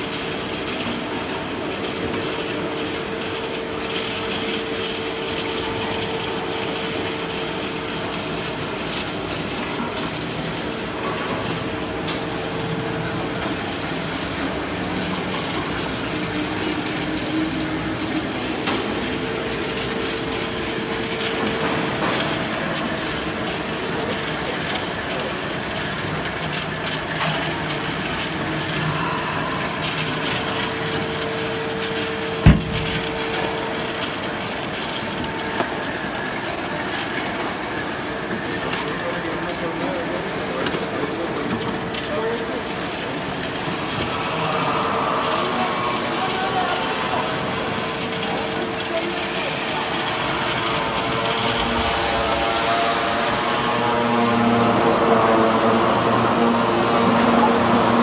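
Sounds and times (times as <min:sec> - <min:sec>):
faint machine hum: 0:00.0 - 0:58.0
oil extraction machine running: 0:00.0 - 0:58.0.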